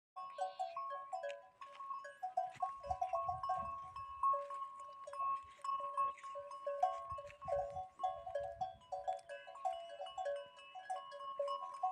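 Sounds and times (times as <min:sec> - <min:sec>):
camel bells jangling: 0:00.2 - 0:11.9.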